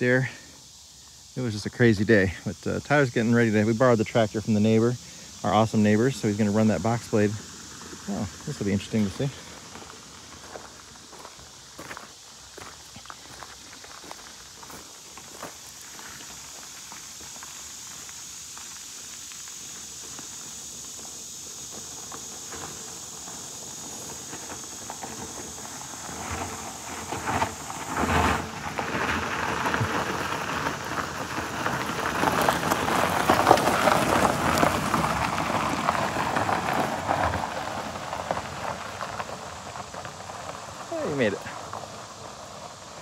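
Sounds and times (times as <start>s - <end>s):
car tyres crunching over gravel: 0.0s - 43.0s.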